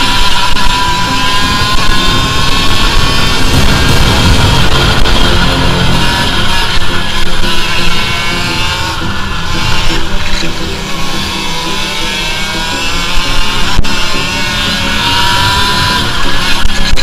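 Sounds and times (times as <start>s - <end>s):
kart engine accelerating: 0.0s - 17.0s
rock music: 0.0s - 17.0s.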